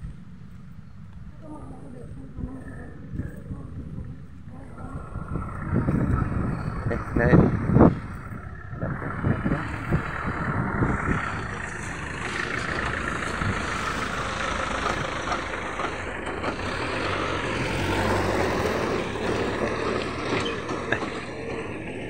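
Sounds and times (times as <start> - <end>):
truck engine driving past: 0.0 - 22.0.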